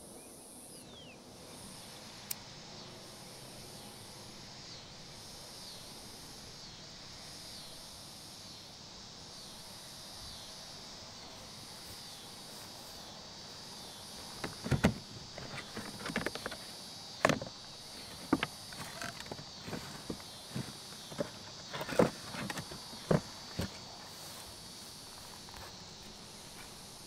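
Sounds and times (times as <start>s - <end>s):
high insect chirp: 0.0s - 27.0s
insects droning: 0.0s - 27.0s.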